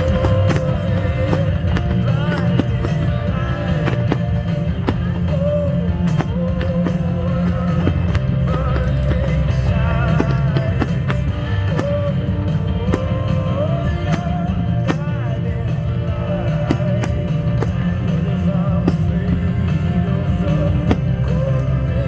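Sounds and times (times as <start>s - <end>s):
loud music with singing: 0.0s - 22.0s.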